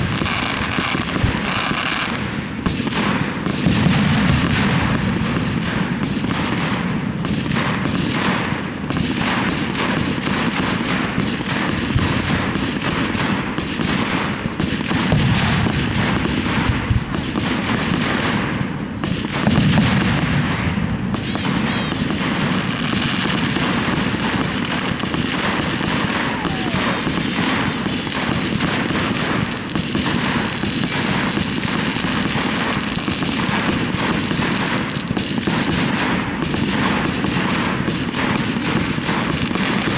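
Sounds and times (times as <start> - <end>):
fireworks shells bursting: 0.0 - 39.9.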